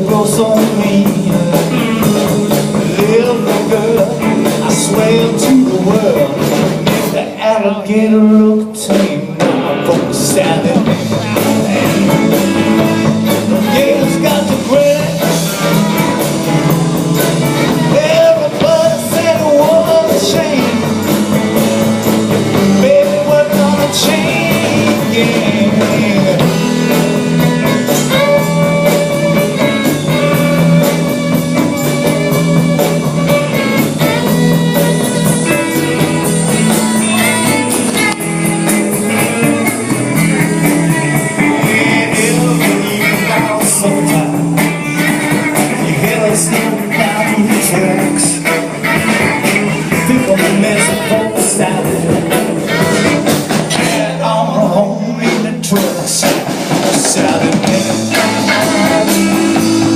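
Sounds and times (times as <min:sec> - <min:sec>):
rock band playing bluesy groove: 0:00.0 - 0:59.9.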